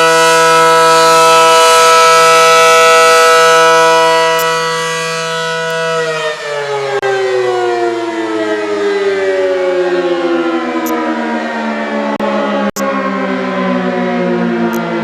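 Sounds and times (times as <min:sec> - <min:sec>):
warning siren tone: 0:00.0 - 0:15.0.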